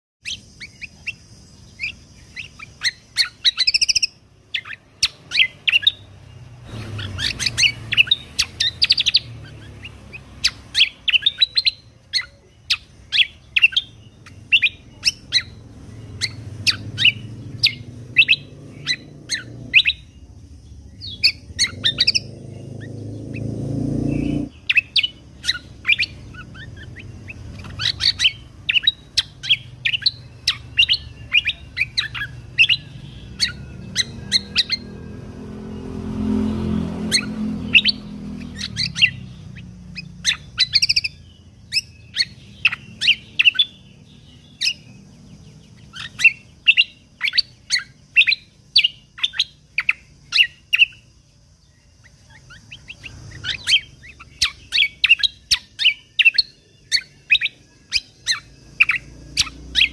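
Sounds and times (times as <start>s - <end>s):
songbird chirping and trilling: 0.2s - 59.9s.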